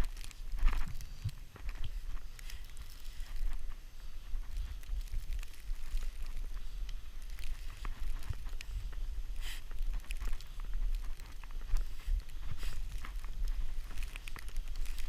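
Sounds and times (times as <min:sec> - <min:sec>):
snow crackling and scraping: 0:00.0 - 0:15.0
wind rumbling on microphone: 0:00.0 - 0:15.0.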